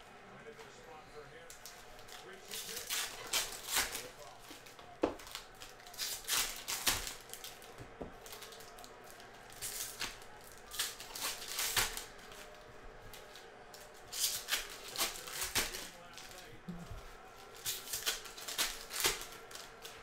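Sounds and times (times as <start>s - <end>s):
foil pack crinkling: 1.5s - 12.6s, 13.2s - 16.5s, 17.2s - 20.0s.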